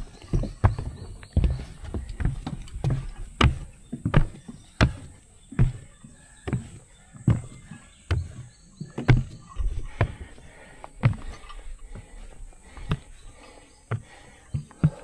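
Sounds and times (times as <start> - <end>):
footsteps climbing trail steps: 0.0 - 15.0.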